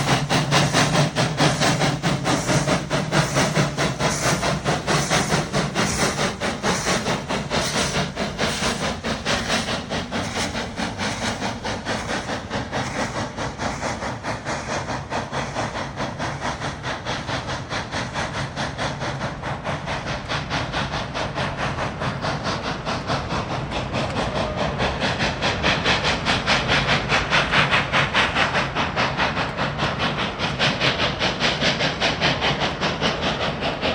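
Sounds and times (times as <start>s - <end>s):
steam locomotive chuffing: 0.0s - 33.9s.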